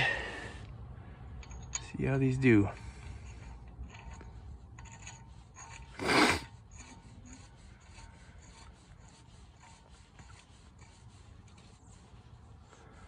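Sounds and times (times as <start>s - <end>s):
metal threads rasping: 1.4s - 12.6s
metal scrape: 1.5s - 12.3s.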